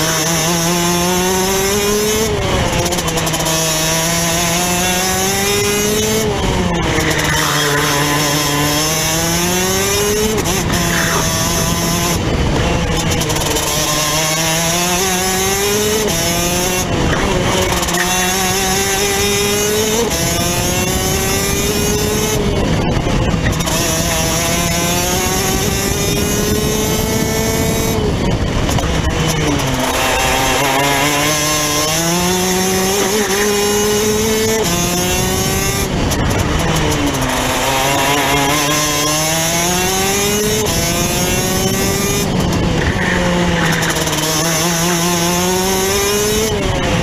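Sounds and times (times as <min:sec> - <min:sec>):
kart engine revving: 0:00.0 - 0:47.0
wind and road noise: 0:00.0 - 0:47.0.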